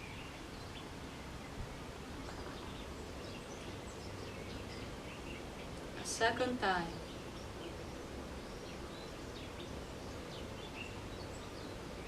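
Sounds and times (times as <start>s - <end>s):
faint bird chirps: 0.0s - 12.0s
outdoor background hum and hiss: 0.0s - 12.0s.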